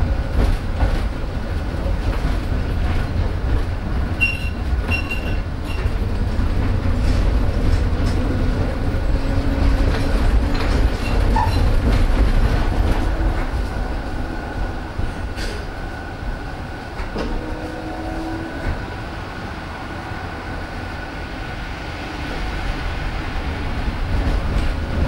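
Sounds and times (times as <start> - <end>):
tram heavy rumble: 0.0 - 25.0.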